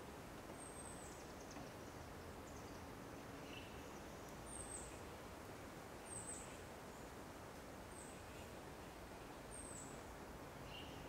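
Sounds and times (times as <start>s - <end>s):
wind through trees: 0.0s - 11.0s.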